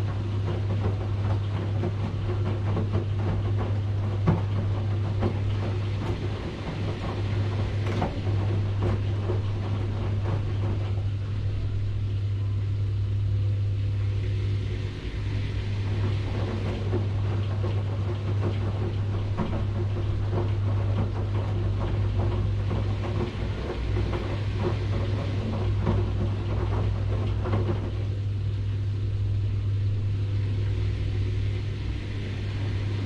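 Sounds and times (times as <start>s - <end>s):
washing machine humming: 0.0s - 33.0s
washing machine knocking and clattering: 0.0s - 33.0s.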